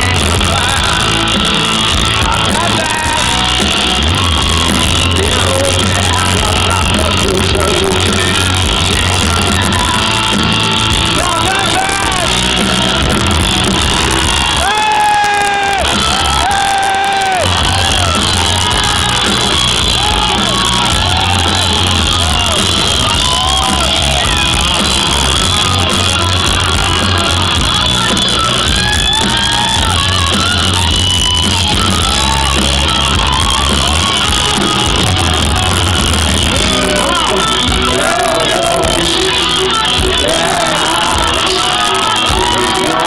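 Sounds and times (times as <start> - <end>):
bass: 0.0 - 43.0
crowd shouting along: 0.0 - 43.0
drums: 0.0 - 43.0
electric guitar: 0.0 - 43.0.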